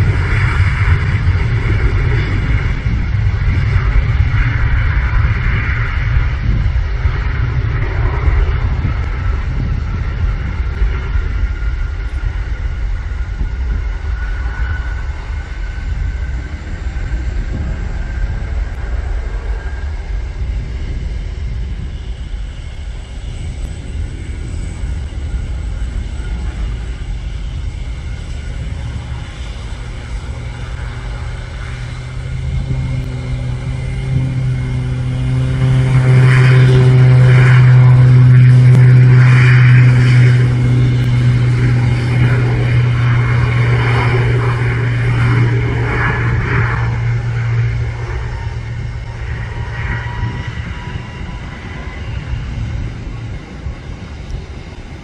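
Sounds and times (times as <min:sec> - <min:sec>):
aircraft engines rumbling: 0:00.0 - 0:55.0
aircraft passing drone: 0:00.0 - 0:55.0.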